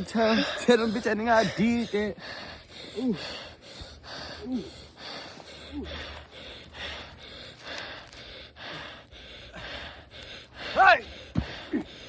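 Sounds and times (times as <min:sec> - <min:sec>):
person panting: 0:00.0 - 0:12.0.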